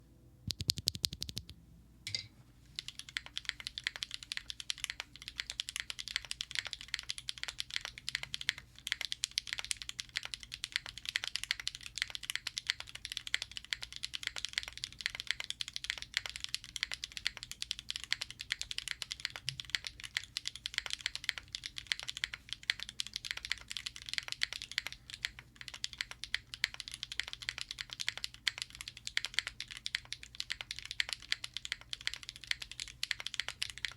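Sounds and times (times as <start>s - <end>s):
fast typing on mechanical keyboard: 0.5s - 1.5s, 2.8s - 33.9s.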